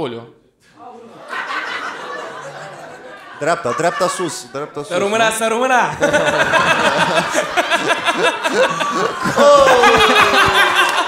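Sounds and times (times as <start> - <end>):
men laughing: 1.1 - 11.0.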